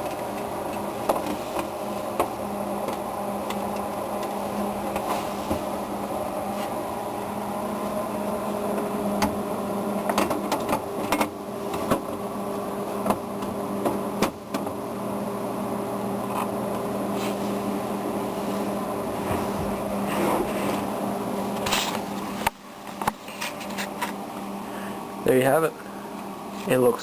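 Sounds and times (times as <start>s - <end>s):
computer fans humming: 0.0s - 27.0s.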